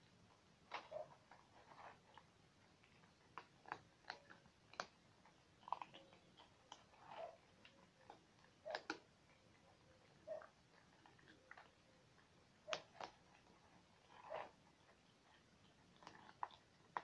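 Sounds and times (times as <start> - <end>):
cats chewing food: 0.0 - 17.0.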